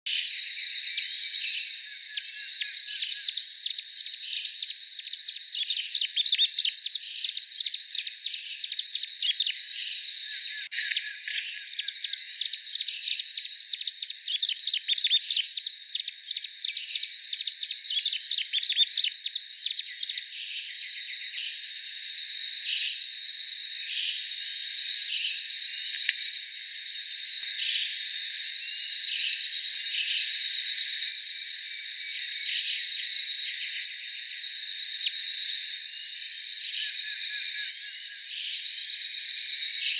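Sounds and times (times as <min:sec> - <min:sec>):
songbird twittering song: 0:00.1 - 0:39.9.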